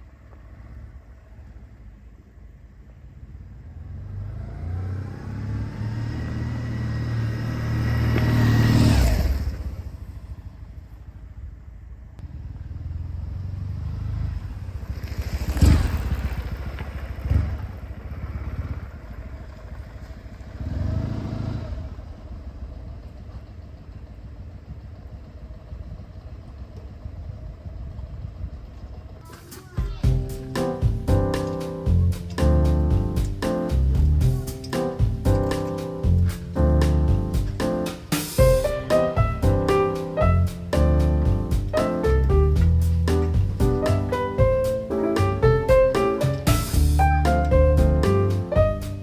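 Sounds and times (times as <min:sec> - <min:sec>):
motorcycle engine revving and idling: 0:03.3 - 0:49.0.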